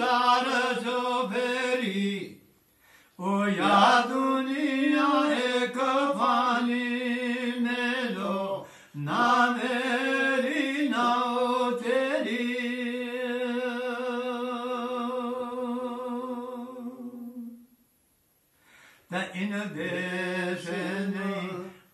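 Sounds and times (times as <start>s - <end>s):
man singing unaccompanied: 0.0s - 2.5s, 3.2s - 17.6s, 19.1s - 21.9s.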